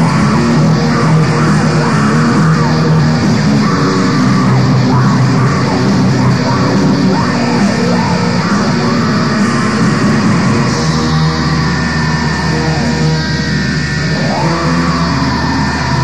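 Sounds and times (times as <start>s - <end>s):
distorted black metal guitars and drums: 0.0s - 16.0s.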